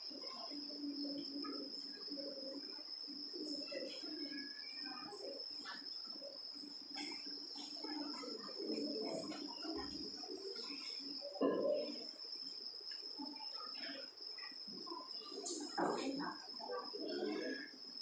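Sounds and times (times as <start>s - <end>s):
faint voices: 0.0s - 18.0s.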